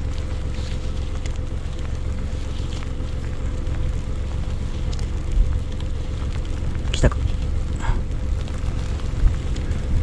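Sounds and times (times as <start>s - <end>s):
faint crackles: 0.0s - 10.0s
low wind rumble on microphone: 0.0s - 10.0s.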